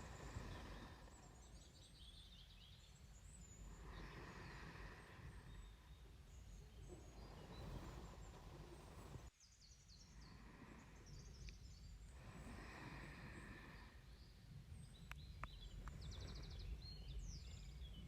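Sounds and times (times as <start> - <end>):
faint bird chirps: 0.0 - 18.0
faint slow breathing: 0.0 - 18.0.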